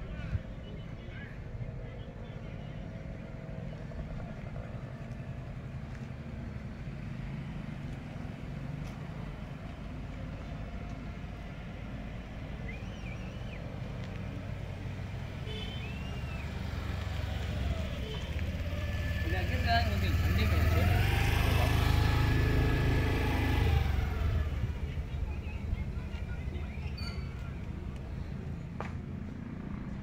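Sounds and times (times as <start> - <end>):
vehicle engine idling: 0.2 - 30.0.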